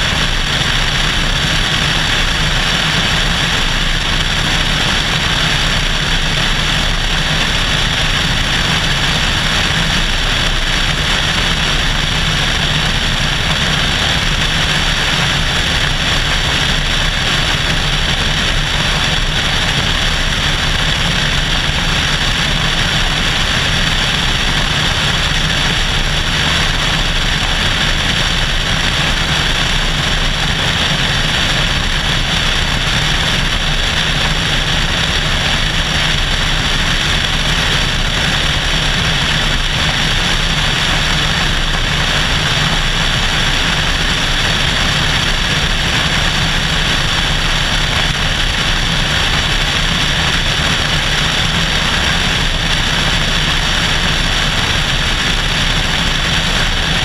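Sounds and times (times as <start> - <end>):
airplane engine and propeller droning: 0.0 - 57.0
wind rushing over camera: 0.0 - 57.0.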